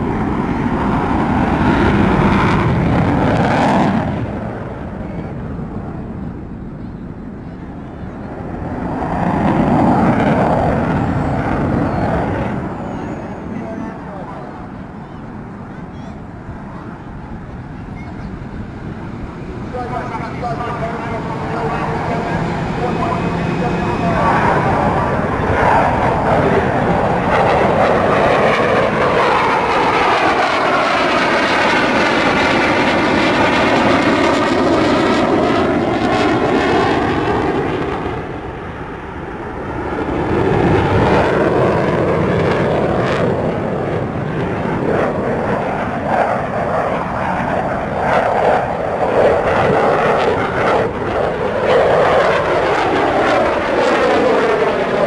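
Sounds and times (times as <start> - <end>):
fighter jet passing: 0.0 - 55.0.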